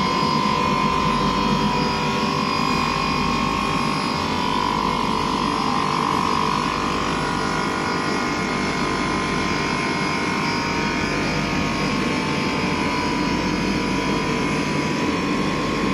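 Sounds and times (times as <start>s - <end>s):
high steady whine: 0.0s - 15.9s.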